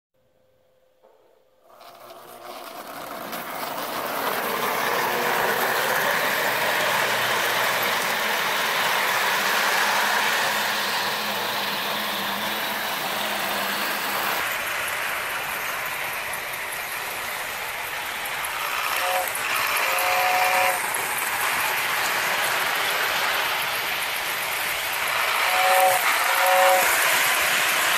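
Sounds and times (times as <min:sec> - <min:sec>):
toy electric trains running: 0:01.7 - 0:27.9.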